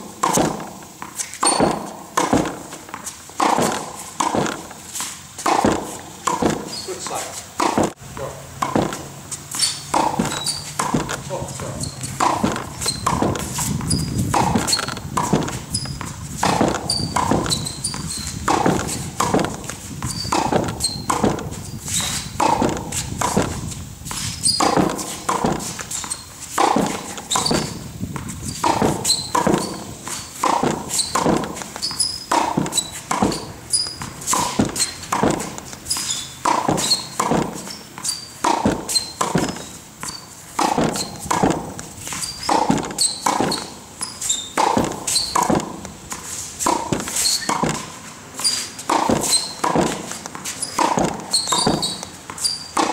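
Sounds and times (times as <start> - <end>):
ball bouncing on concrete: 0.0 - 52.9
tennis ball hit with rackets: 0.0 - 52.9.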